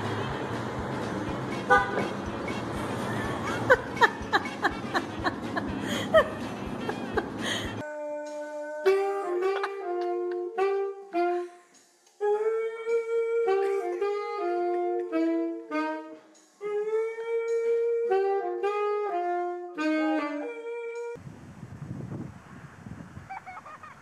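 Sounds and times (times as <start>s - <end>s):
saxophone melody: 0.0s - 21.2s.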